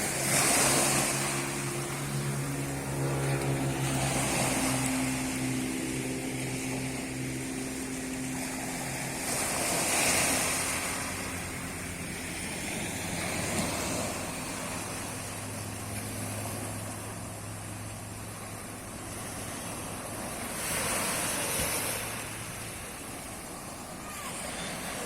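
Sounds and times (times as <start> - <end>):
engine humming: 0.0 - 25.0
sea waves washing onto beach: 0.0 - 25.0.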